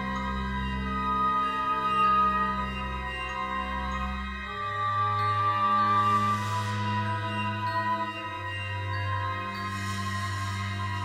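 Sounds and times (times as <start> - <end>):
eerie synthesizer pads: 0.0 - 11.0.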